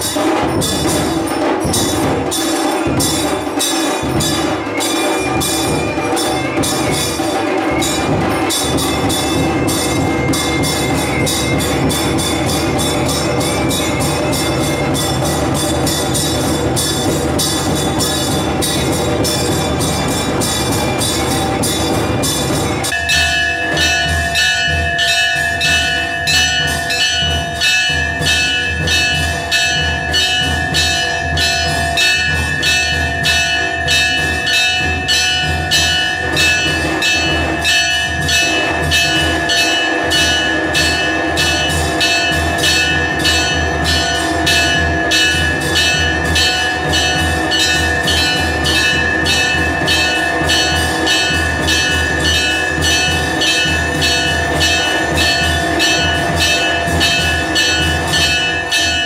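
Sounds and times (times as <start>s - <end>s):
temple bells clanging: 0.0s - 59.0s.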